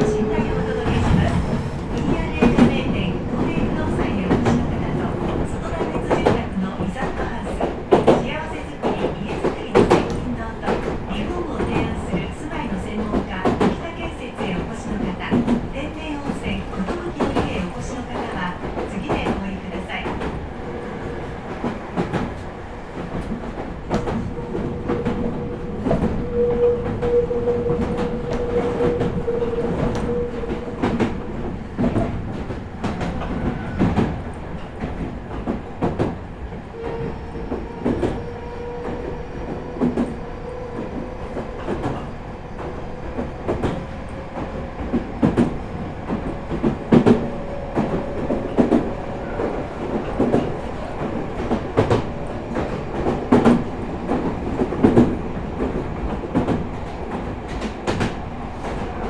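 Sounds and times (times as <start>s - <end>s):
train rumble from inside: 0.0s - 59.0s.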